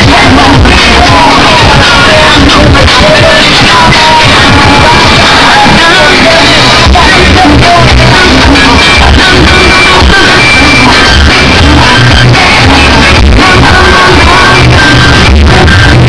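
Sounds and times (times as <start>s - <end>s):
loud bass-heavy music from speakers: 0.0s - 16.0s.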